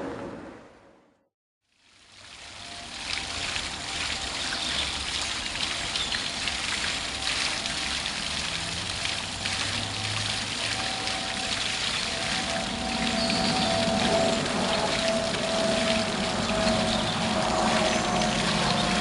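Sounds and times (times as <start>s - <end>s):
running water: 1.6s - 19.0s.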